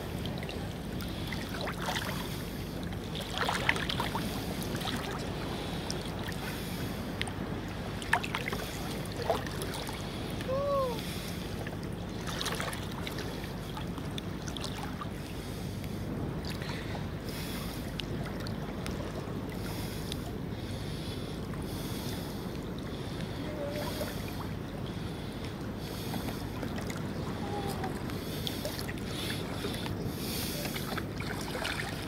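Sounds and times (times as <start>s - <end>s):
water lapping: 0.0s - 32.0s.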